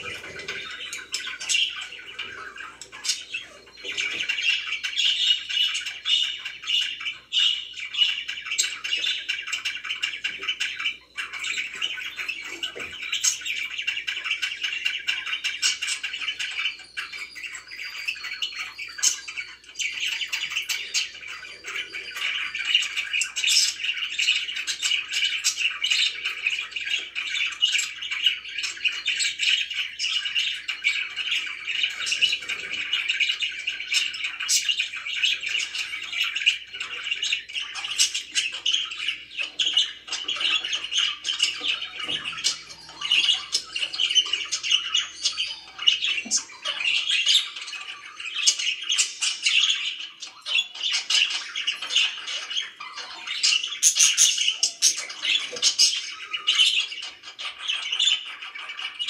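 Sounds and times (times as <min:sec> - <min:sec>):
budgerigars chattering and chirping: 0:00.0 - 0:59.0.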